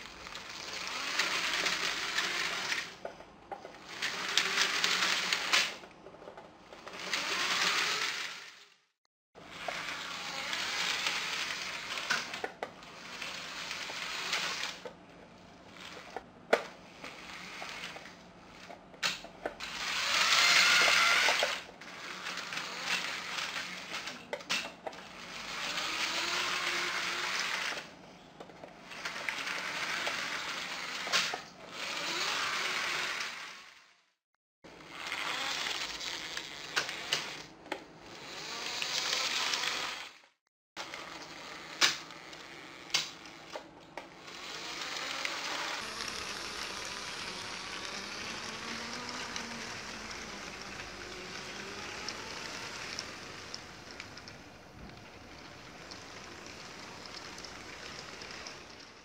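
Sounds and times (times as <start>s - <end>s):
wheels rattling over plastic track: 0.0s - 8.7s, 9.5s - 33.8s, 34.7s - 40.2s, 40.8s - 59.0s
toy train motors whirring: 0.0s - 8.8s, 9.4s - 34.0s, 34.7s - 59.0s.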